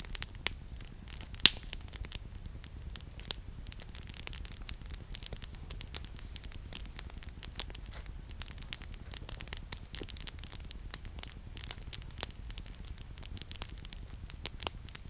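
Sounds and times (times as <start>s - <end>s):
campfire crackling and popping: 0.0s - 15.0s
low steady rumble: 0.0s - 15.0s.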